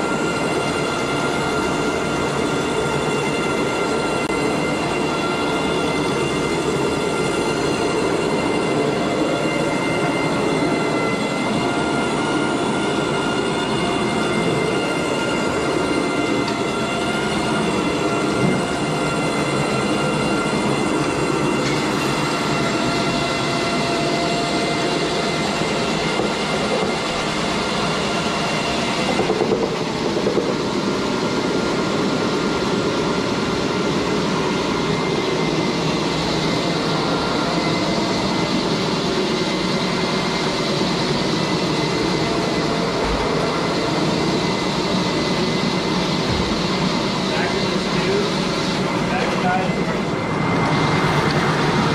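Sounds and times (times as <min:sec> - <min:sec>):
carpet extraction machine running: 0:00.0 - 0:33.9, 0:34.6 - 0:51.9.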